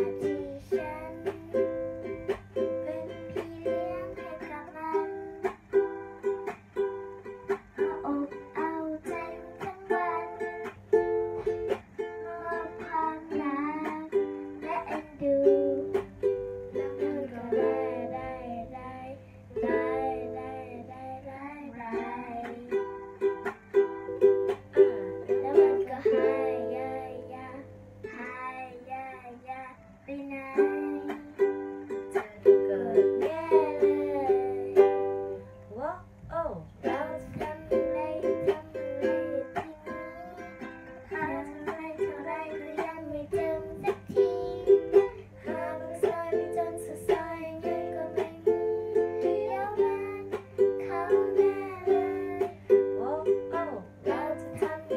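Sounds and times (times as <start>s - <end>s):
ukulele chords: 0.0s - 36.2s, 36.8s - 54.9s
girl singing: 0.0s - 54.9s.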